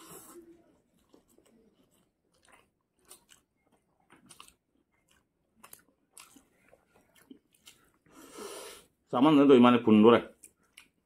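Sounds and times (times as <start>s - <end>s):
faint chewing and mouth clicks: 0.0s - 8.4s, 10.2s - 11.0s.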